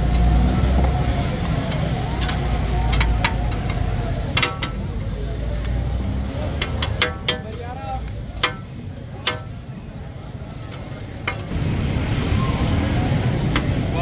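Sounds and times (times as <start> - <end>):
crowd chatter: 0.0 - 14.0.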